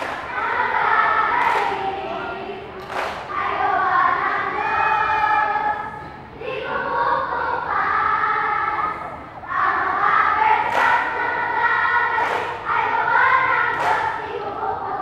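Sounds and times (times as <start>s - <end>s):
girls singing in unison: 0.0s - 15.0s.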